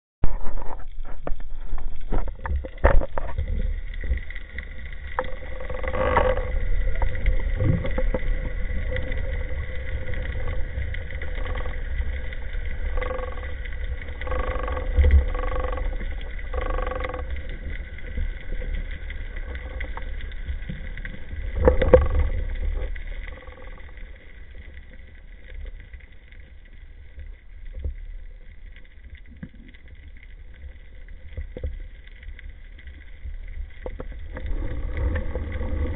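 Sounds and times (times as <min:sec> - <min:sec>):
faint steady whine: 0:00.2 - 0:35.9
underwater rumble of moving water: 0:00.2 - 0:35.9.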